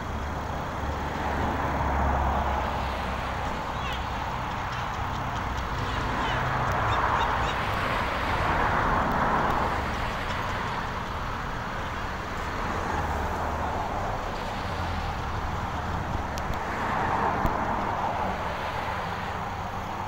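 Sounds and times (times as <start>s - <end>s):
traffic rumble: 0.0s - 20.0s
vehicle passing: 0.8s - 19.4s.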